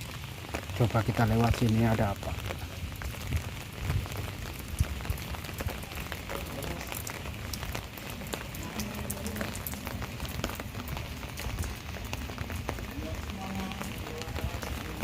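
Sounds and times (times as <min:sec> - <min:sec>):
rain falling: 0:00.0 - 0:15.0
raindrops ticking on surfaces: 0:00.0 - 0:15.0.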